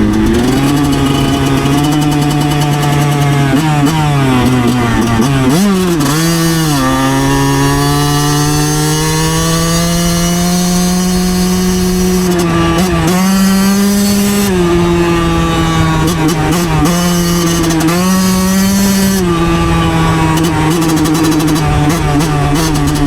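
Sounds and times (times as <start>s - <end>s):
two-stroke motorcycle engine running: 0.0s - 23.0s.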